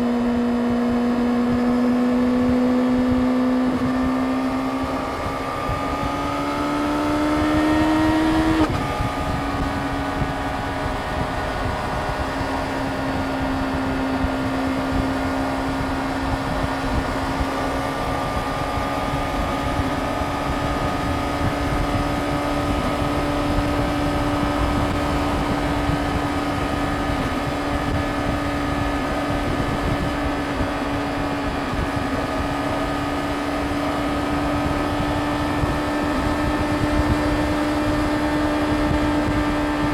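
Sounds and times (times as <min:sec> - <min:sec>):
motorcycle engine revving: 0:00.0 - 0:39.9
wind rush: 0:00.1 - 0:39.9.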